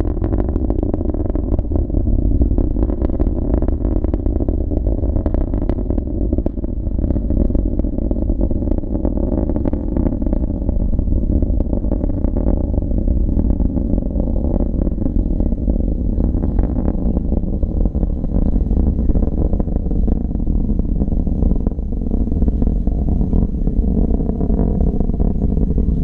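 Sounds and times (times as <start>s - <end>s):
rocket engine rumbling: 0.0s - 26.0s.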